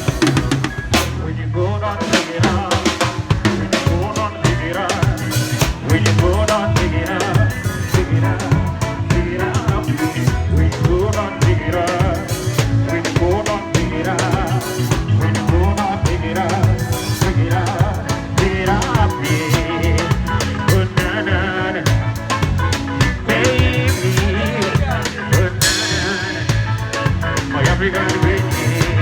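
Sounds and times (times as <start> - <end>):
drum kit playing: 0.0 - 1.3, 1.9 - 29.0
bass: 0.0 - 29.0.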